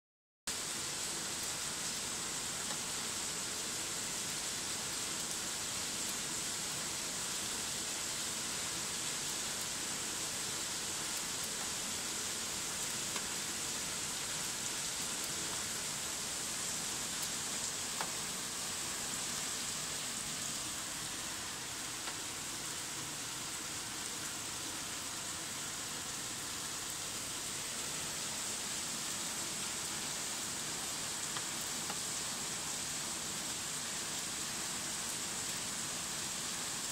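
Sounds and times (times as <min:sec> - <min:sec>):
rain on pavement: 0:00.5 - 0:36.9.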